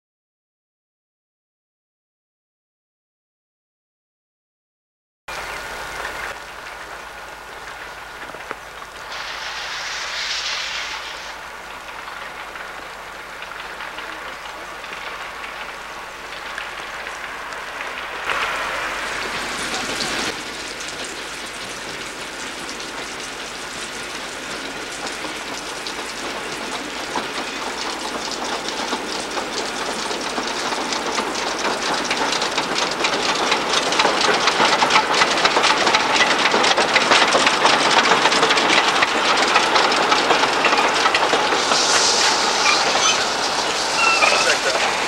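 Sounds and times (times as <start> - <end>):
steam hiss: 5.4 - 45.0
train wheels clattering over rails: 6.0 - 45.0.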